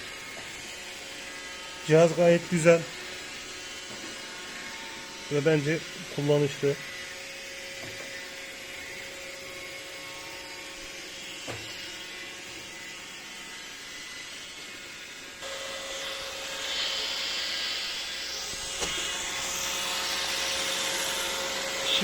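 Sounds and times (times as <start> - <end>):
robot vacuum motor whirring: 0.0 - 22.0.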